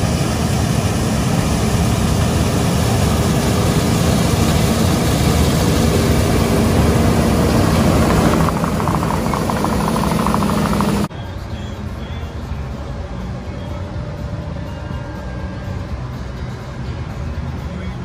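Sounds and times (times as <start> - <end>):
combine harvester engine drone: 0.0 - 18.0.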